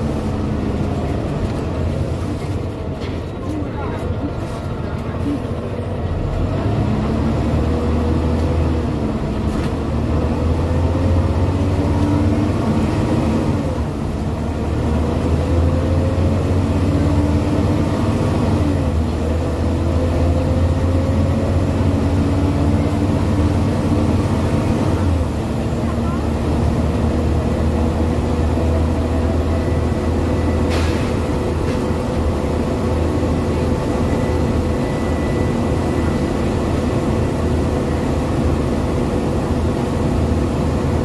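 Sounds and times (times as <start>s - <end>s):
bus diesel engine accelerating: 0.0s - 41.0s.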